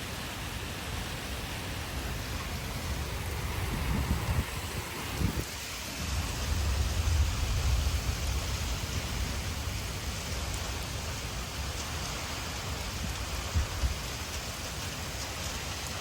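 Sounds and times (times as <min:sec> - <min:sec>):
heavy rain falling: 0:00.0 - 0:16.0
low thunder rumble: 0:02.1 - 0:16.0.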